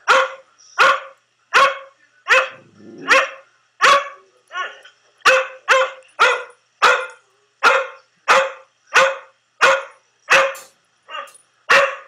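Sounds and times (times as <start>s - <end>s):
dog barking through a speaker: 0.0s - 4.3s, 5.2s - 12.0s.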